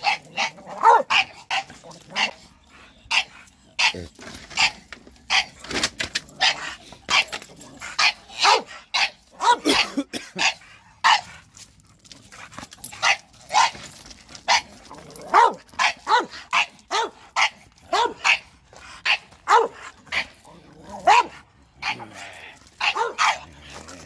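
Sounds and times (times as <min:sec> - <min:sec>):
dogs barking: 0:00.0 - 0:11.4, 0:12.8 - 0:23.6.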